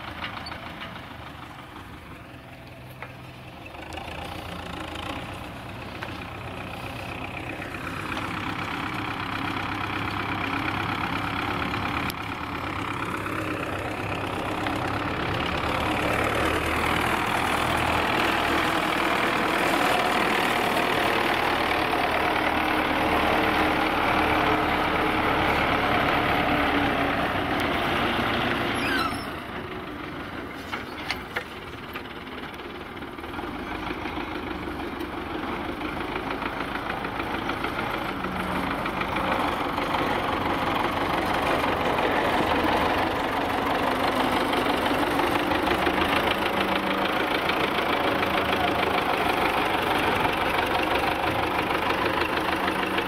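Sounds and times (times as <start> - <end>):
tractor diesel engine passing: 0.0 - 53.0.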